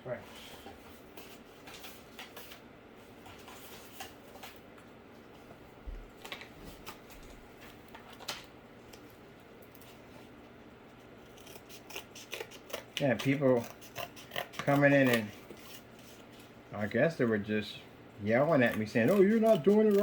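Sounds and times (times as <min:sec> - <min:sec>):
faint room hum: 0:00.0 - 0:20.0.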